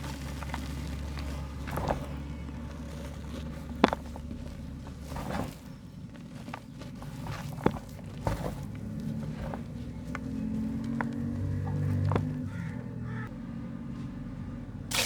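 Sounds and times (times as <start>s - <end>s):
mud crumbling by hand: 0.0s - 12.4s.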